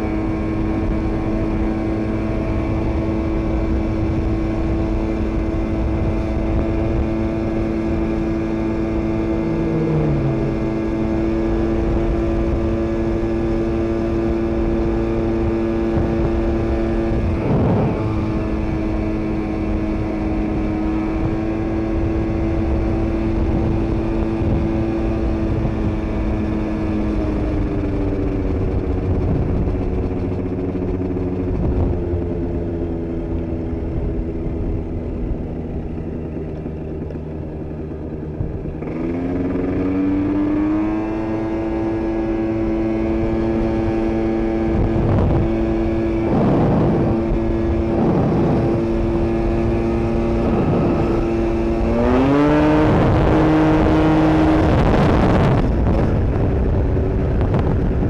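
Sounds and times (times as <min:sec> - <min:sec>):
scooter two-stroke engine: 0:00.0 - 0:58.0.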